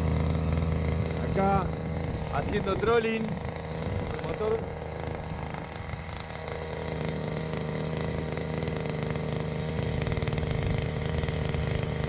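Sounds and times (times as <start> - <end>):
outboard motor buzzing: 0.0 - 12.0.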